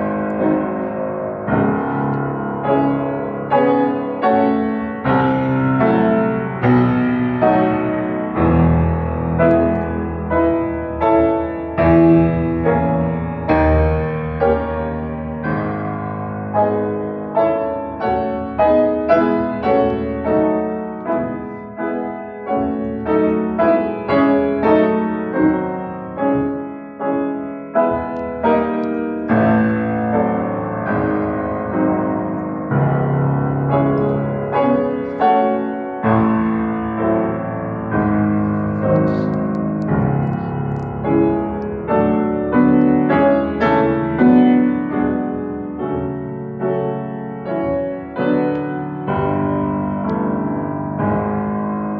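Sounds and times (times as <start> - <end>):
grand piano playing: 0.0 - 51.9.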